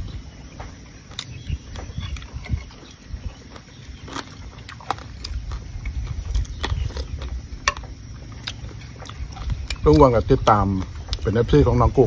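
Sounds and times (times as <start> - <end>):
eating clicks and crunches: 0.0 - 12.0
low uneven rumble: 0.0 - 12.0.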